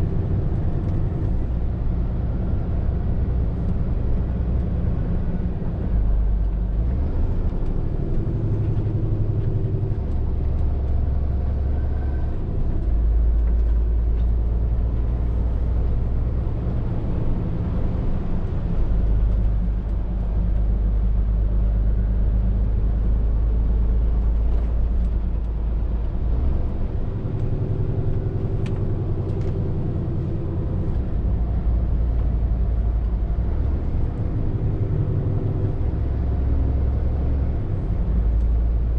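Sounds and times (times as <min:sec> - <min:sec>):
lorry diesel engine drone: 0:00.0 - 0:38.9.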